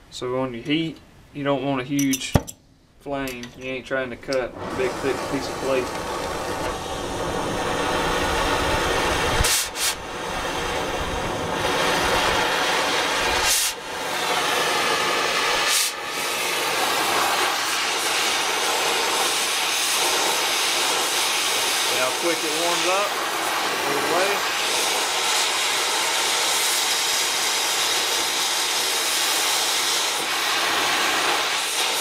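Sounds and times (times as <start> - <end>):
torch hissing: 4.3 - 32.0.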